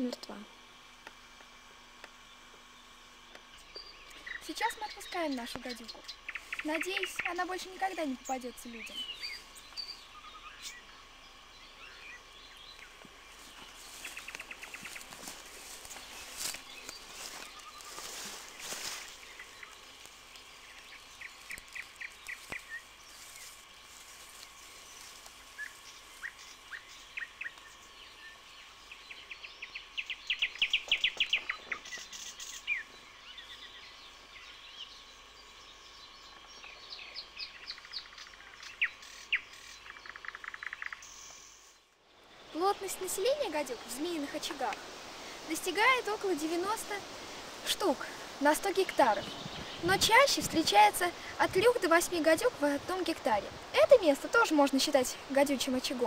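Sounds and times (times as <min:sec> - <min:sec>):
outdoor background hiss: 0:00.0 - 0:56.0
songbirds trilling: 0:00.0 - 0:56.0.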